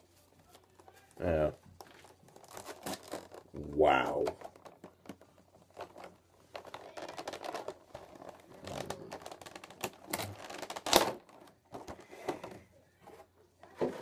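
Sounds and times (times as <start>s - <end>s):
plastic packaging crackling: 0.0s - 12.1s.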